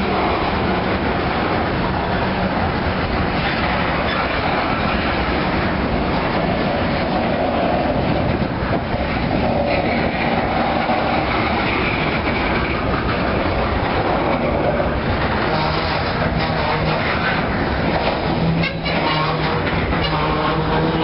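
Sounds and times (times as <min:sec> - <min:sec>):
freight cars rumbling and clattering: 0:00.0 - 0:21.0.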